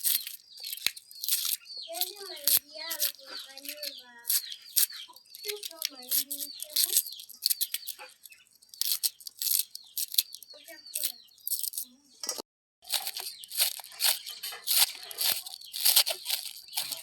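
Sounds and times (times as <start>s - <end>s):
crisp tearing and crunching: 0.0s - 11.8s, 12.8s - 17.0s.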